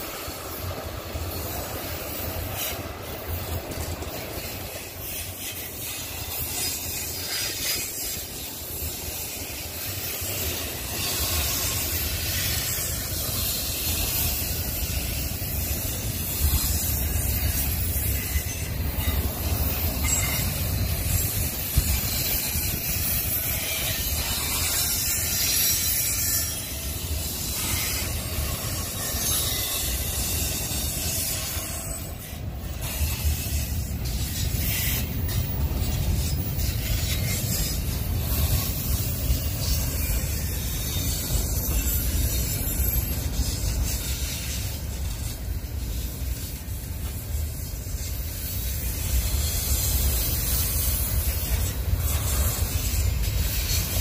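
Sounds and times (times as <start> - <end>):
rail cars rumbling past: 0.0 - 54.0.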